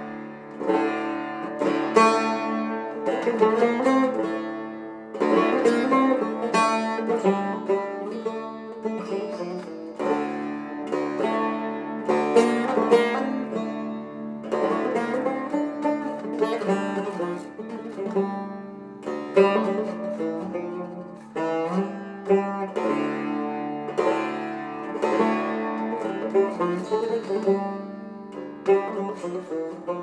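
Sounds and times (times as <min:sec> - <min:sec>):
plucked long-necked lute: 0:00.0 - 0:30.0.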